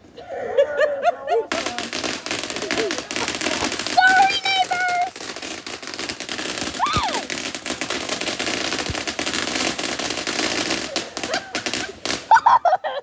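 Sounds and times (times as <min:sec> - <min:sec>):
fireworks crackling pops: 0:01.5 - 0:12.6
firework bangs: 0:01.5 - 0:13.0.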